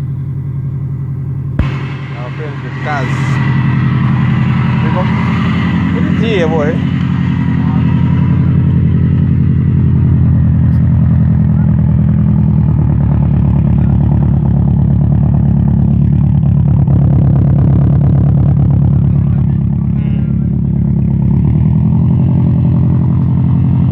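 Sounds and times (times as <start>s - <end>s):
engine running steadily: 0.0s - 23.9s.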